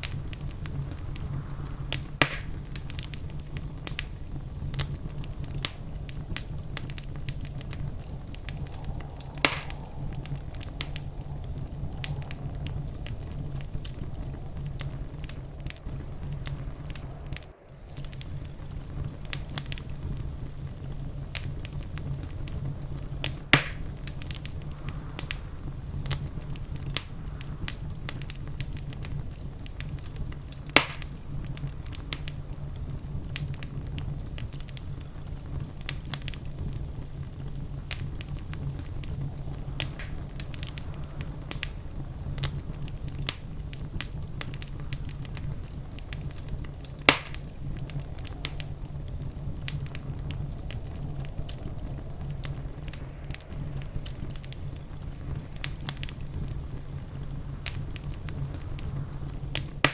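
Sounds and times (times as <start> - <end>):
fire crackling: 0.0 - 59.9
fire pops: 0.0 - 59.9
low rumble of flames: 0.0 - 59.9.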